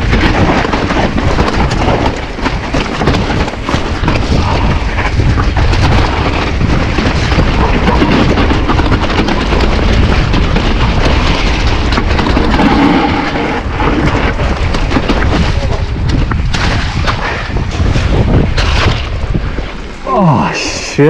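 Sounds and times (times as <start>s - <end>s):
bike knocks and rattles: 0.0s - 19.9s
wind buffeting microphone: 0.0s - 21.0s.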